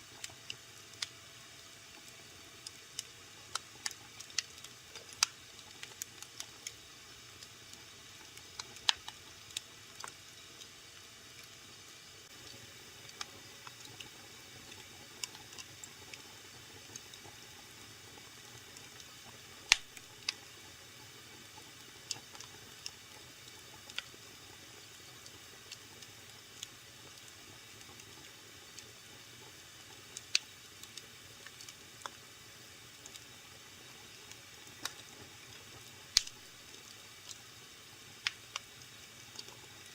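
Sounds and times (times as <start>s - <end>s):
faint steady hiss: 0.0s - 39.9s
fire crackling and popping: 0.0s - 39.9s.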